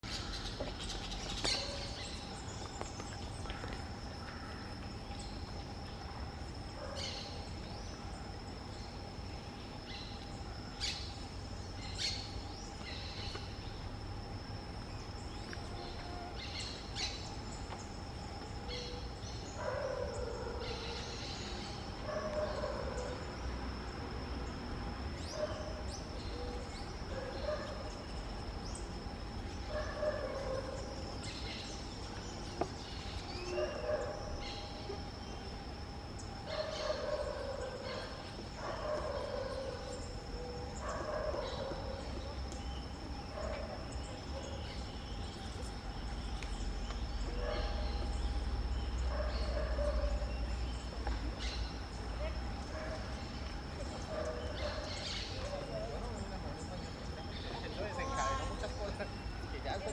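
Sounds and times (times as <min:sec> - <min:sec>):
birds chirping: 0:00.0 - 0:13.9, 0:24.4 - 0:59.9
steady high-pitched whine: 0:00.0 - 0:59.9.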